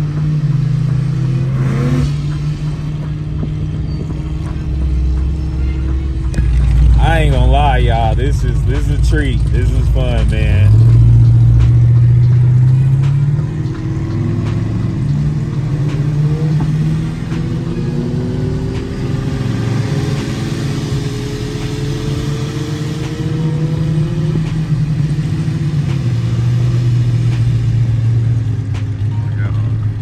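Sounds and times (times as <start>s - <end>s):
car engine drone from inside cabin: 0.0s - 30.0s.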